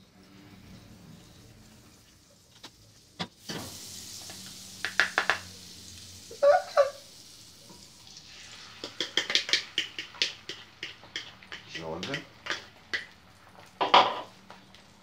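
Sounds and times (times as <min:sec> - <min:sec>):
butter sizzling in a frying pan: 0:01.2 - 0:15.0.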